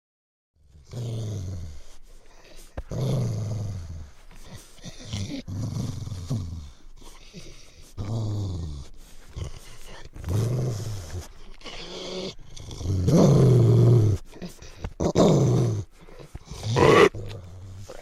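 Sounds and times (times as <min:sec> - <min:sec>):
low dog-like growls: 0:00.6 - 0:18.0.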